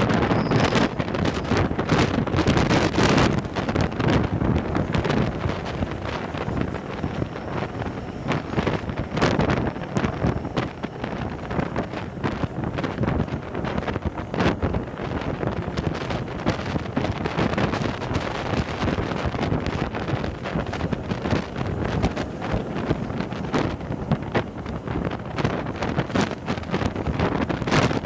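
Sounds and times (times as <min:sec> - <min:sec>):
train rumbling on track: 0:00.0 - 0:28.0
wind buffeting microphone: 0:00.0 - 0:28.0.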